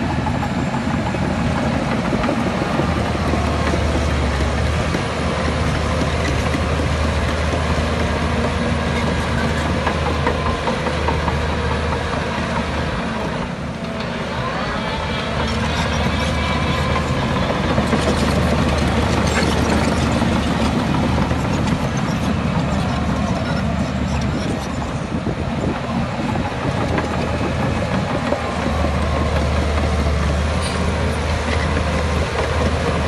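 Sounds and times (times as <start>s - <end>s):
diesel earthmoving machinery running: 0.0s - 33.0s.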